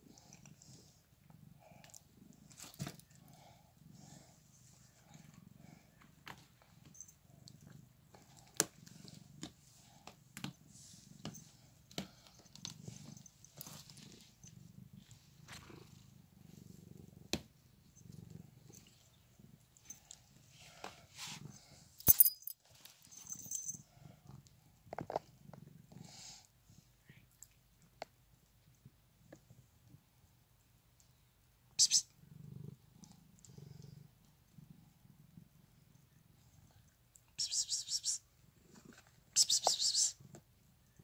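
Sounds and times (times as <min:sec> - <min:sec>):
cat purring: 0:00.0 - 0:22.0, 0:23.6 - 0:31.4, 0:32.1 - 0:37.3, 0:38.4 - 0:39.3.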